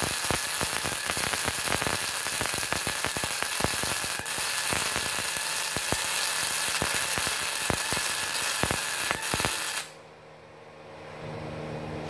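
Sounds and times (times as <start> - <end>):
spatter pops: 0.0 - 9.9
welding arc crackling and hissing: 0.0 - 10.0.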